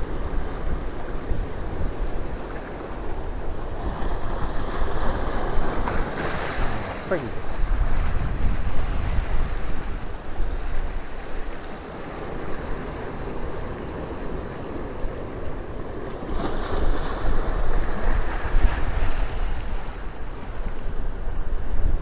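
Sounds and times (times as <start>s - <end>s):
surf breaking on shore: 0.0s - 22.0s
wind buffeting microphone: 0.0s - 22.0s.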